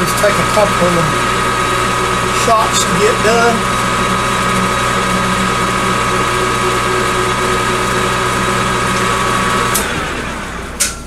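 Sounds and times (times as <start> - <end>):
metal lathe whining: 0.0 - 10.8.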